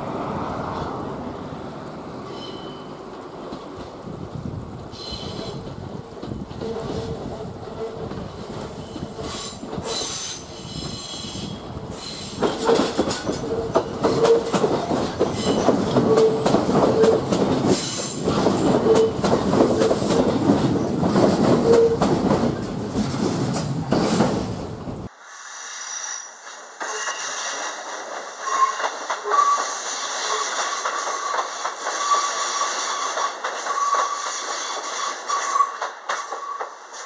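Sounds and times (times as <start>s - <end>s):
train rumble: 0.0s - 25.1s, 26.4s - 37.0s
train wheels clattering over rails: 2.4s - 25.1s, 26.5s - 37.0s.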